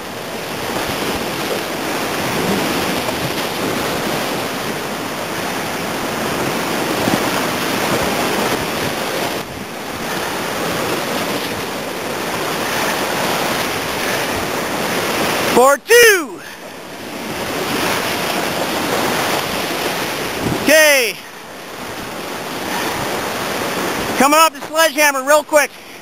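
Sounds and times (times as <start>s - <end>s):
rushing whitewater: 0.0s - 26.0s.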